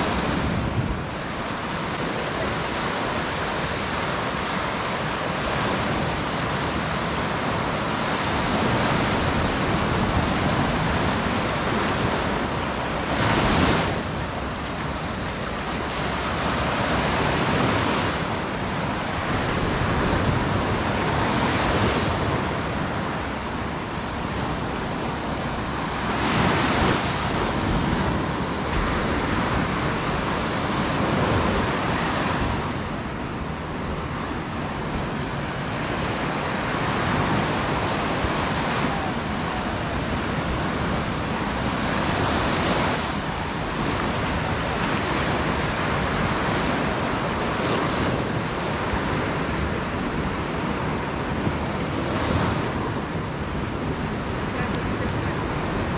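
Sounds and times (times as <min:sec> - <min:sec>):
sea surf breaking on beach: 0:00.0 - 0:55.9.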